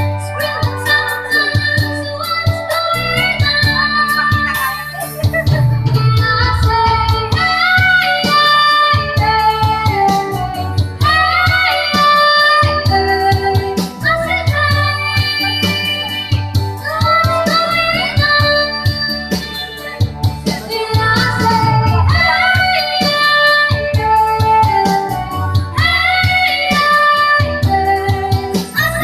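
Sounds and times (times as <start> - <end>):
backing track with bass and beat: 0.0 - 29.0
boy singing into microphone: 0.0 - 29.0.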